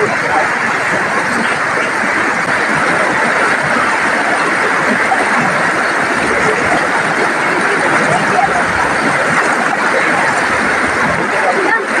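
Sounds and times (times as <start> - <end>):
floodwater rushing over edge: 0.0 - 12.0.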